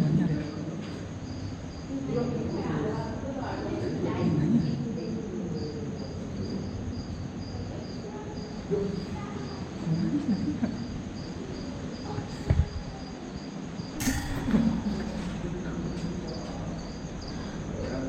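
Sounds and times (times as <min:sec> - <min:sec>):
cricket chirping: 0:00.0 - 0:18.0
low murmuring voices: 0:00.0 - 0:18.0.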